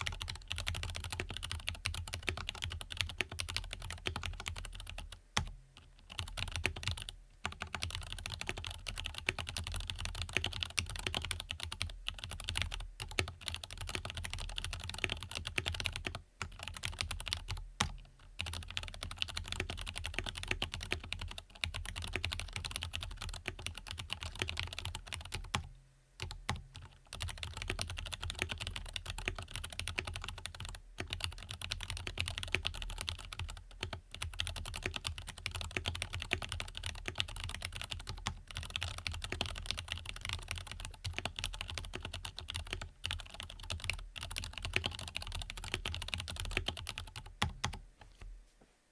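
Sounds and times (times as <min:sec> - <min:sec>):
mechanical keyboard typing: 0:00.0 - 0:05.5, 0:06.1 - 0:47.8.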